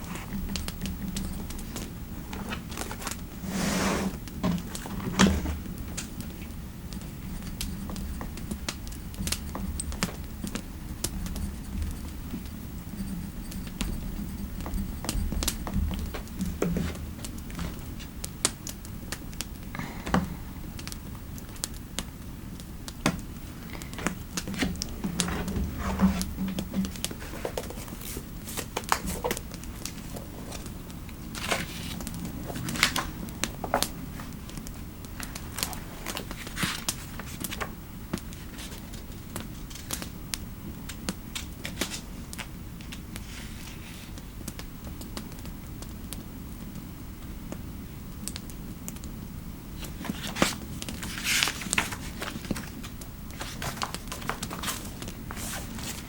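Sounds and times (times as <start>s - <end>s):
crinkling and crackling: 0.0s - 47.6s, 49.8s - 56.0s
fireplace background: 0.0s - 56.0s.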